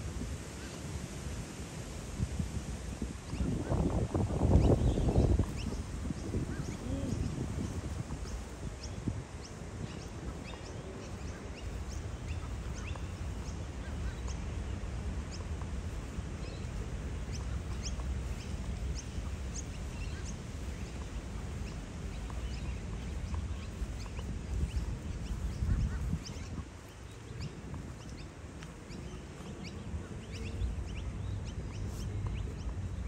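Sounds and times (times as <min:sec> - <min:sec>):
ducklings peeping: 0:03.2 - 0:33.0.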